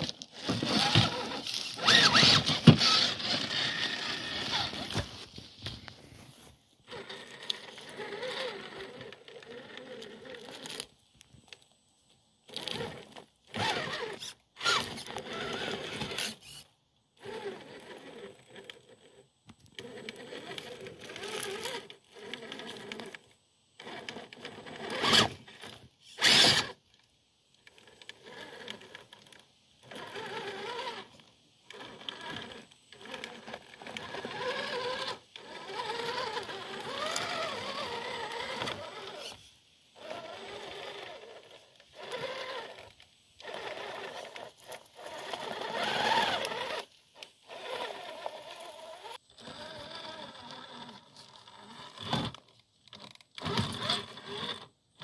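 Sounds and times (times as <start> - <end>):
electric motor and gears whining: 0.0 - 6.2, 6.8 - 10.9, 12.4 - 26.8, 27.6 - 55.0.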